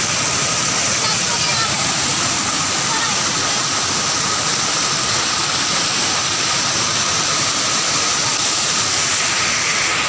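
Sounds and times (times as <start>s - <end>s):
waterfall rushing over rocks: 0.0s - 10.0s.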